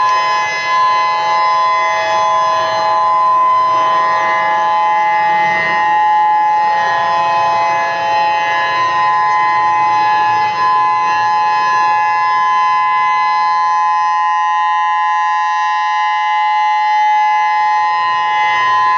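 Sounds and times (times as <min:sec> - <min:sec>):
electronic siren steady tone: 0:00.0 - 0:18.9.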